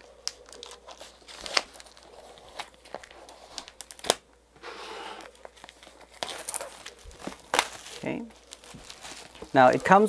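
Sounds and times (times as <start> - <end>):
plastic wrap snapping: 0.0 - 4.3, 5.2 - 10.0
plastic shrink wrap crinkling: 0.0 - 4.4, 5.2 - 10.0.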